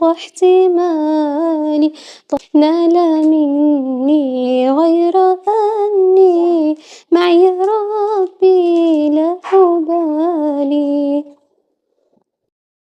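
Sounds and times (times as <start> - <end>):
girl singing unaccompanied: 0.0 - 11.4.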